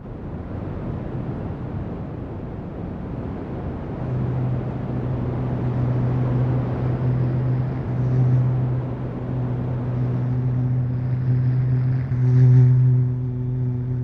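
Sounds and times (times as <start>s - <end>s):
low rumbling electronic noise: 0.0s - 14.0s
steady low drone: 0.0s - 14.0s.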